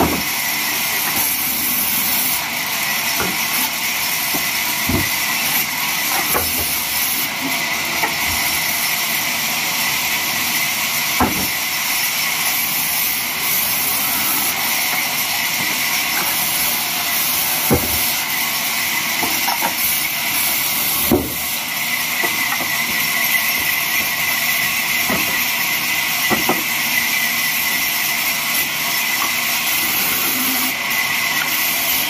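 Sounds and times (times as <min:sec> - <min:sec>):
bandsaw cutting logs: 0:00.0 - 0:32.0.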